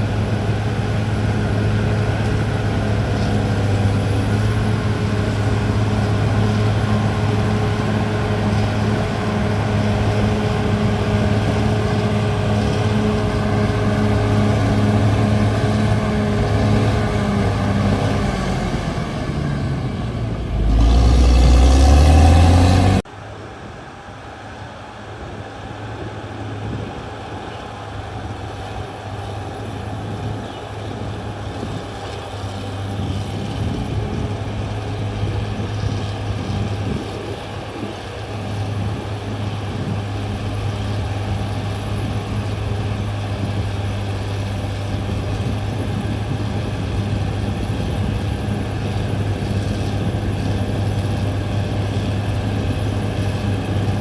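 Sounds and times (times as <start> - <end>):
bulldozer diesel engine: 0.0 - 23.1, 24.3 - 54.0.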